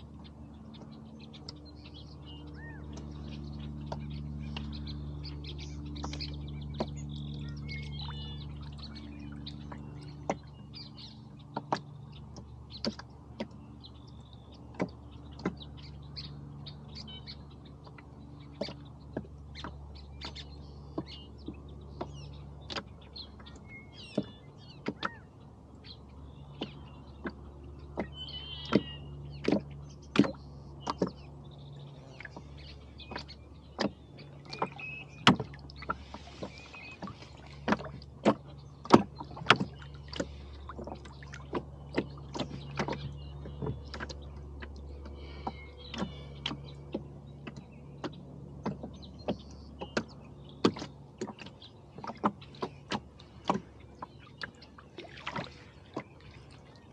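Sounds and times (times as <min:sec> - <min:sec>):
low steady hum: 0:00.0 - 0:56.9
rowboat and oars clicking and knocking: 0:00.0 - 0:56.9
small birds chirping: 0:00.0 - 0:56.9.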